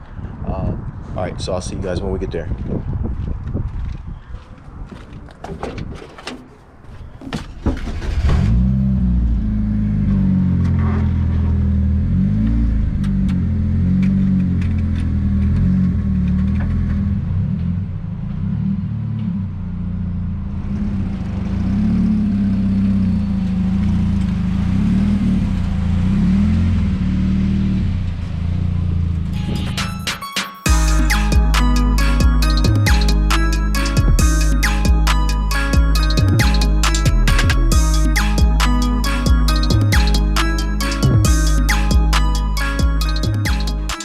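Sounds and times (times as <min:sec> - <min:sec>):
car engine starting and revving: 0:07.4 - 0:30.0, 0:30.7 - 0:44.0.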